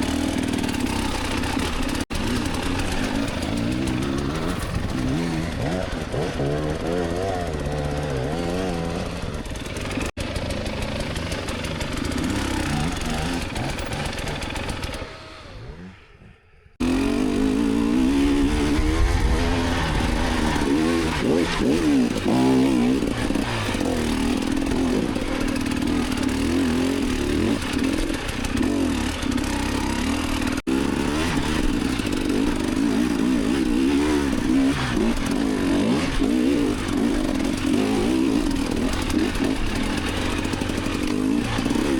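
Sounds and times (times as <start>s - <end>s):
close engine revving unevenly: 0.0s - 41.9s
dirt bike engine revving: 0.0s - 41.9s.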